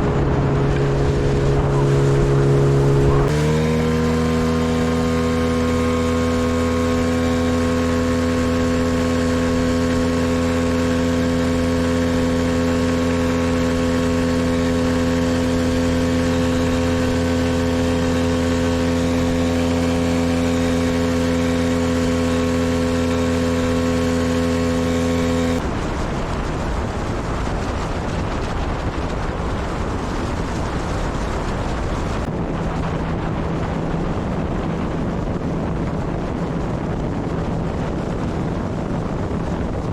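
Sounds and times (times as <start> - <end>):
outboard motor droning: 0.0 - 39.9
water rushing: 0.0 - 39.9
wind on microphone: 0.0 - 39.9.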